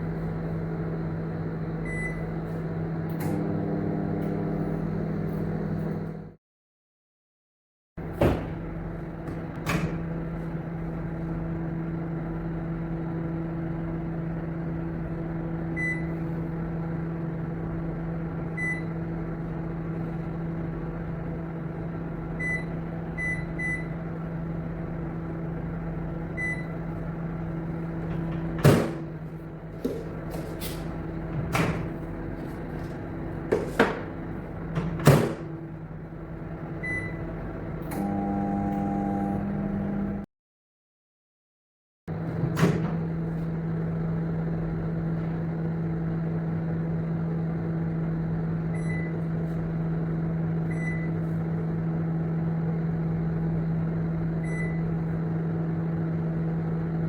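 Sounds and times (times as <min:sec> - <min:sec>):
microwave oven humming: 0:00.0 - 0:06.4, 0:08.0 - 0:40.3, 0:42.1 - 0:57.0.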